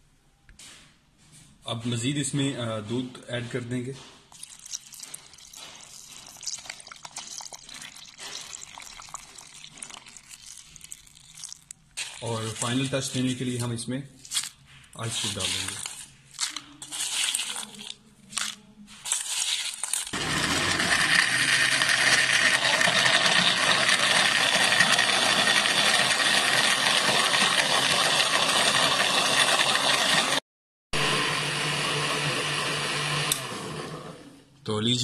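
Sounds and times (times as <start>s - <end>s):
blender churning ice: 4.3s - 13.6s, 14.2s - 30.4s, 31.0s - 34.3s.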